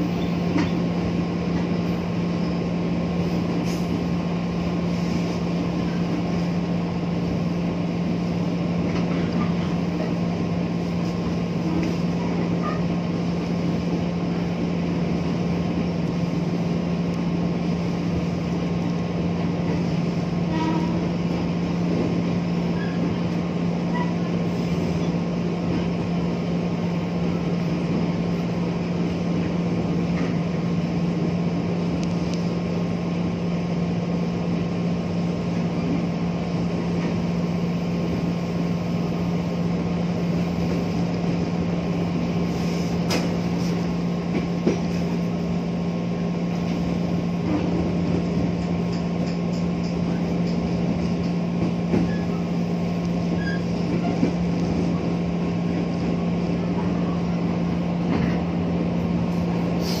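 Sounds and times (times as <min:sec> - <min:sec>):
rolling rail noise: 0:00.0 - 1:00.0
train motor hum: 0:00.0 - 1:00.0.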